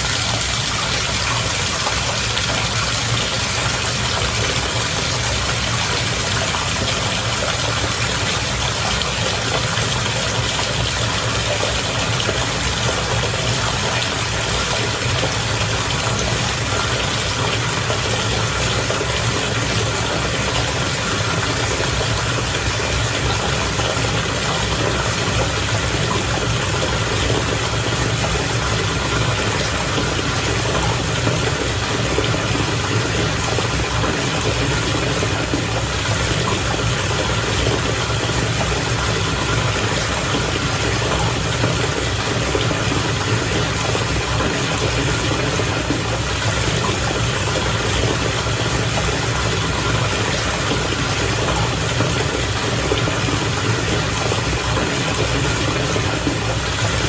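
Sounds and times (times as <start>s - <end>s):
bath water bubbling: 0.0s - 57.0s
pump motor humming: 0.0s - 57.0s.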